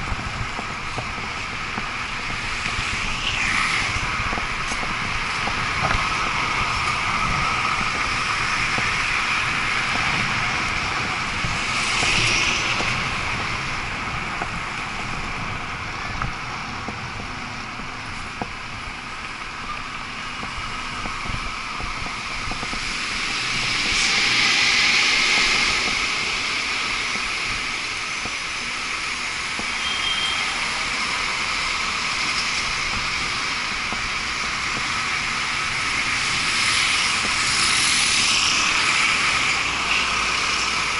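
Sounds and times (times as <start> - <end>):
cars and buses passing: 0.0 - 40.9.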